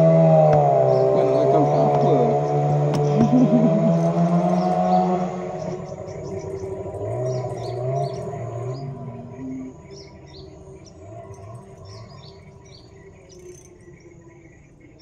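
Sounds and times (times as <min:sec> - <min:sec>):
low hum: 0:00.0 - 0:15.0
small birds chirping: 0:00.0 - 0:15.0.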